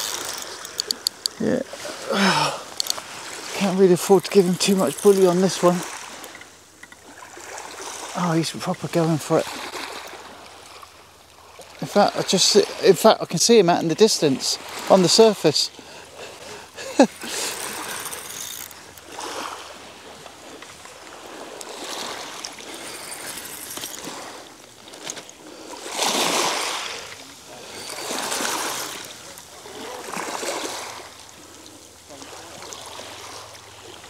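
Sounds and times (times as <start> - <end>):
small waves washing onto shingle: 0.0 - 34.0.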